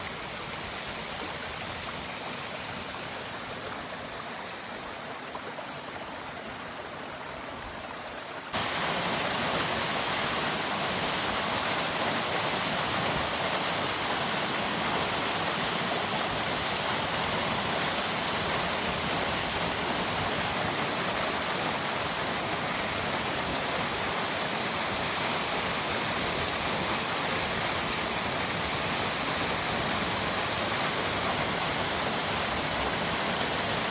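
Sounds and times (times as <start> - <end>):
waterfall rushing: 0.0 - 4.2, 8.0 - 33.9.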